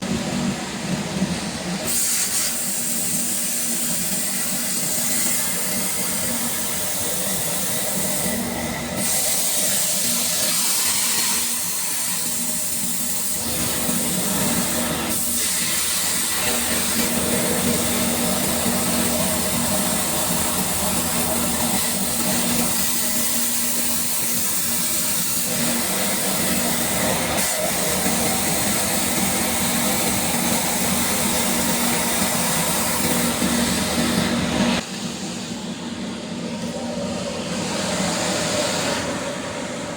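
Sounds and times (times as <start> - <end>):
plasma cutter hissing: 1.6 - 35.5.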